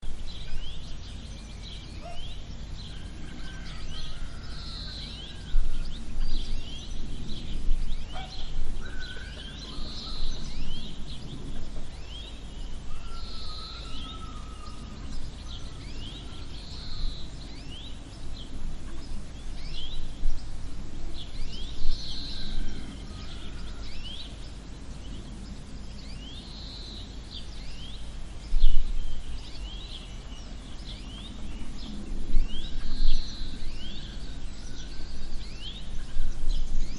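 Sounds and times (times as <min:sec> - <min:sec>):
small birds chirping: 0:00.0 - 0:36.9
steady low rumble: 0:00.0 - 0:36.9.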